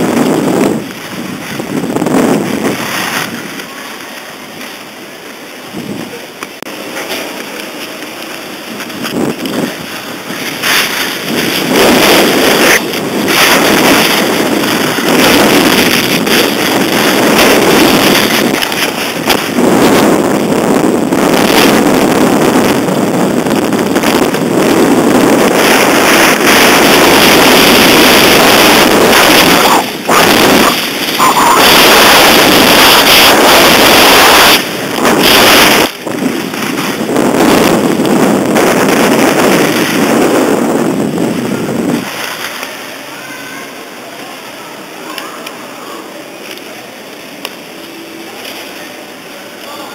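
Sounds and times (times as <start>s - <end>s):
skis scraping on snow: 0.0s - 43.1s
wind buffeting microphone: 0.0s - 43.1s.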